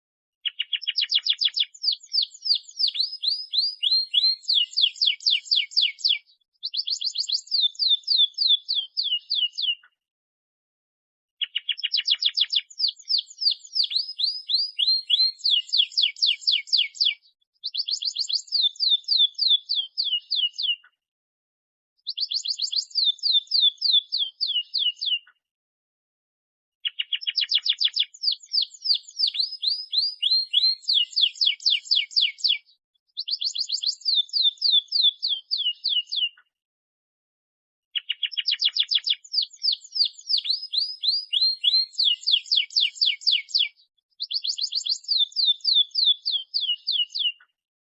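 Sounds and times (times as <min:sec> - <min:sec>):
canary singing trills: 0:00.4 - 0:09.9, 0:11.4 - 0:20.9, 0:22.0 - 0:25.3, 0:26.8 - 0:36.4, 0:38.0 - 0:47.5.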